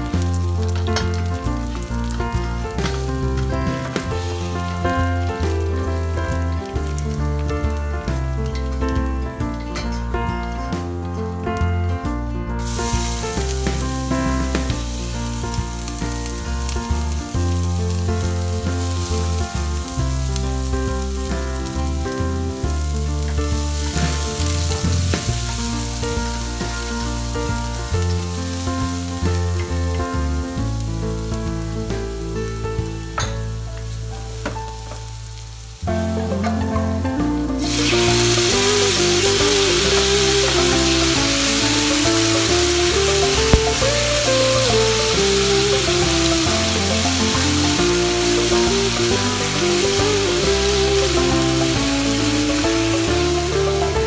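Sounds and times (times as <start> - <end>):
garlic sizzling in oil: 0.0 - 9.1, 12.6 - 54.0
chicken sizzling in pot: 0.0 - 11.7, 12.6 - 54.0
background music: 0.0 - 54.0.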